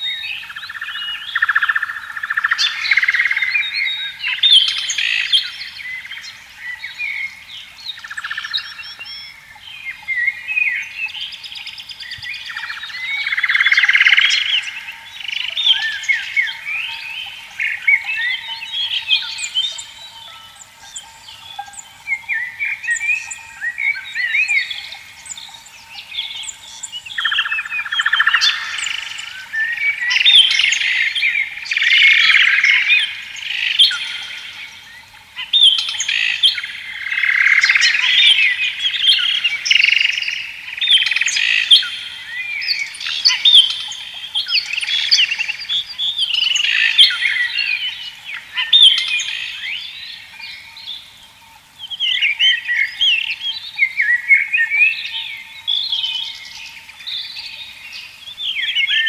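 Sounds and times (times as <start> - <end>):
birds singing in chorus: 0.0 - 59.0.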